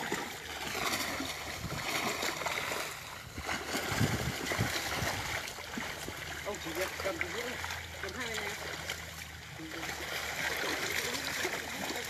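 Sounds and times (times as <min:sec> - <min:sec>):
heavy splashes: 0:00.0 - 0:12.0
muddy water splashing: 0:00.0 - 0:12.0.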